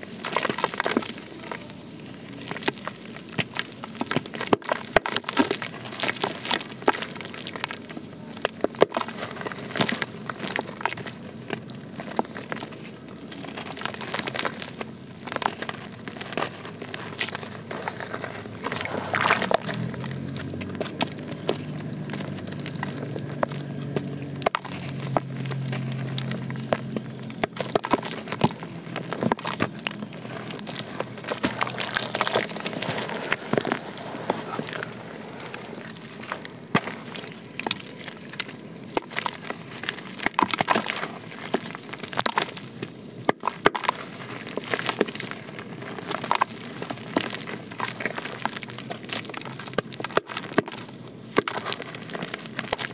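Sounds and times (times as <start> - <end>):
wet dirt crackling and crunching: 0.0 - 52.9
crumbs dropping into water: 2.3 - 52.9.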